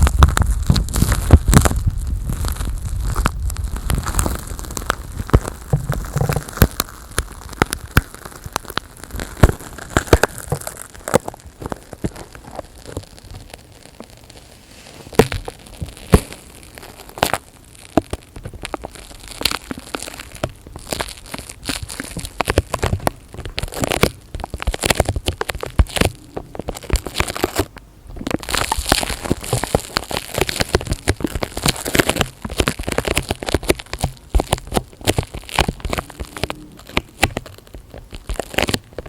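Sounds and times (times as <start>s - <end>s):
crackling clicks and pops: 0.0s - 39.0s.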